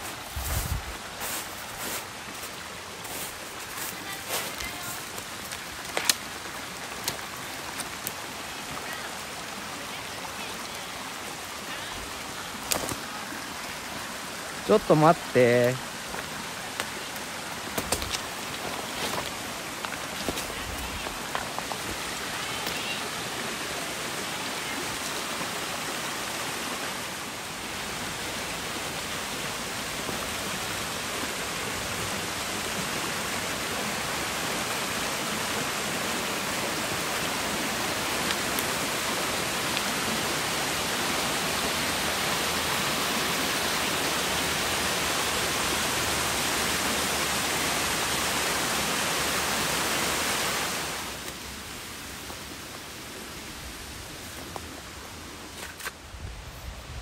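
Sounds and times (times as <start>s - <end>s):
waterfall rushing: 0.0s - 55.4s.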